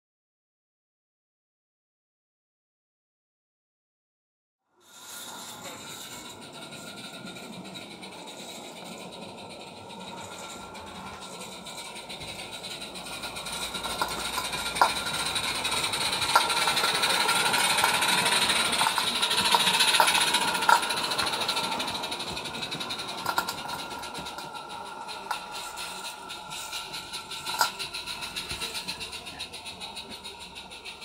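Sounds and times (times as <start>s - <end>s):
model train running on track: 4.7s - 31.0s
wheels clicking over rail joints: 4.9s - 31.0s.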